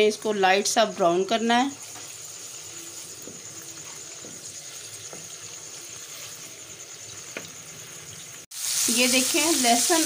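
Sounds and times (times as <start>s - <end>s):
ginger and garlic sizzling in oil: 0.0s - 10.0s.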